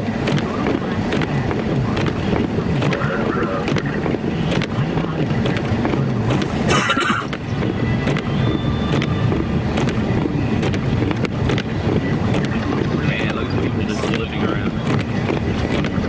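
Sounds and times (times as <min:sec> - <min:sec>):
car engine and road rumble: 0:00.0 - 0:16.0
wind noise: 0:00.0 - 0:16.0.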